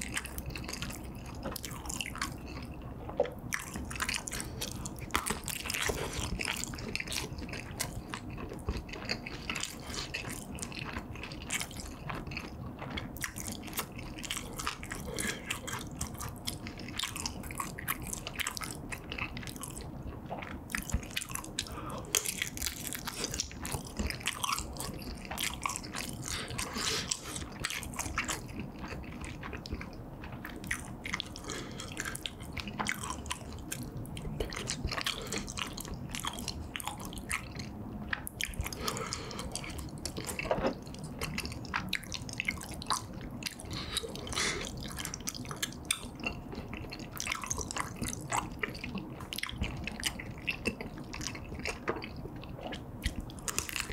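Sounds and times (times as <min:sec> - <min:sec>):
biting and chewing food: 0:00.0 - 0:53.9.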